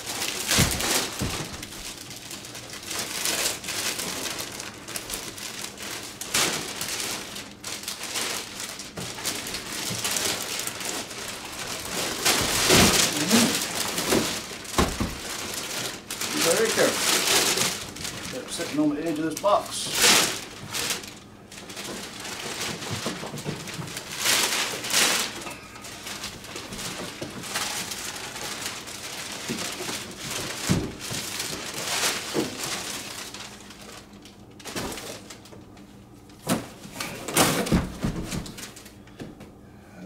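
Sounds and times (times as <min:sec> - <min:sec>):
cardboard and plastic rustling: 0:00.0 - 0:39.4.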